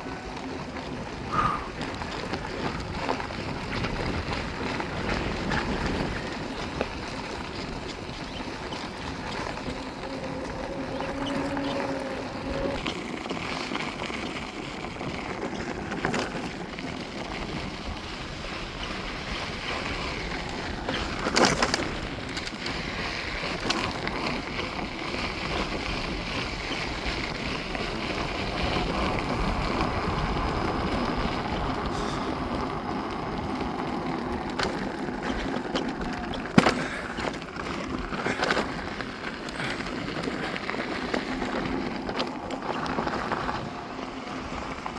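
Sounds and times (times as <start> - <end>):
wind rushing over microphone: 0.0 - 15.8, 16.5 - 44.9
tyre and road noise: 0.0 - 44.9.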